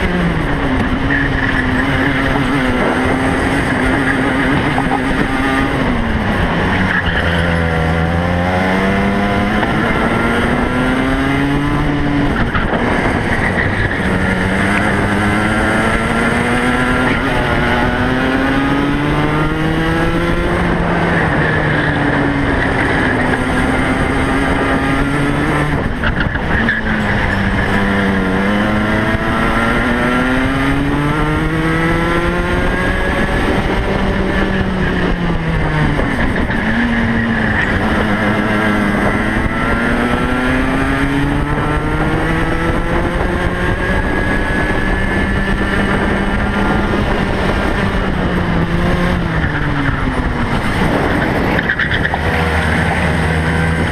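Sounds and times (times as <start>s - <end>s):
racing kart engine: 0.0s - 53.9s.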